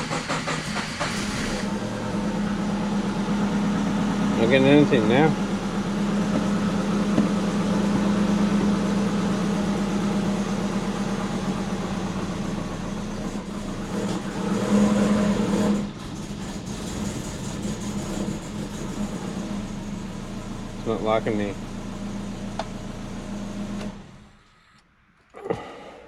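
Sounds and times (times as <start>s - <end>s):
car engine humming: 0.0s - 24.5s.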